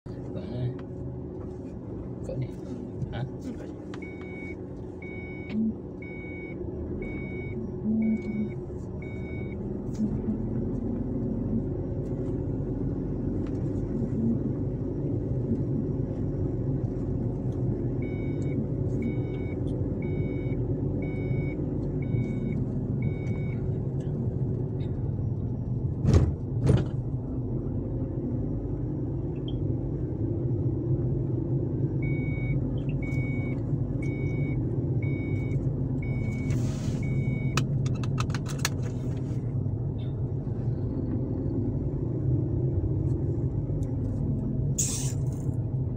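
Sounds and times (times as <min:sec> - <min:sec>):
engine and tyre rumble: 0:00.0 - 0:45.9.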